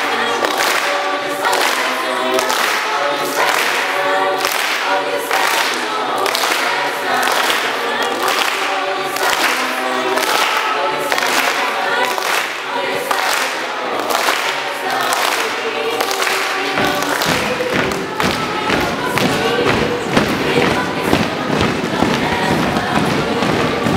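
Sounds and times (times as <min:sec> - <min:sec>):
choir singing a cappella: 0:00.0 - 0:23.9
rhythmic hand clapping: 0:00.0 - 0:23.9.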